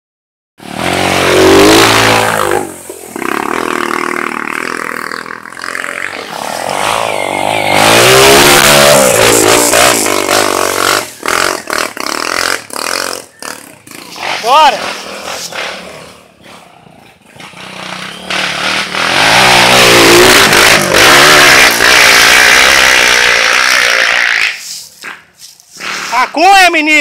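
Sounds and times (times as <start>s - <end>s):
dirt bike engine revving: 0.6s - 24.7s.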